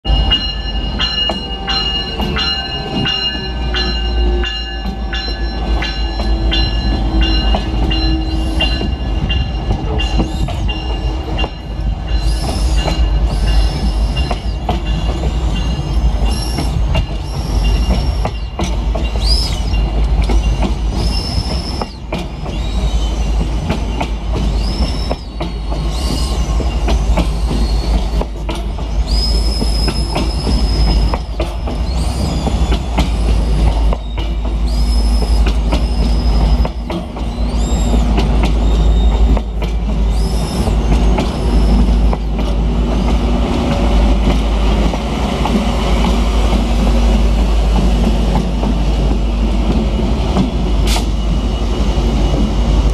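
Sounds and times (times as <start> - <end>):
diesel locomotive tone: 0.0 - 52.9
train low rumble: 0.0 - 52.9
train wheels squealing: 0.0 - 52.9.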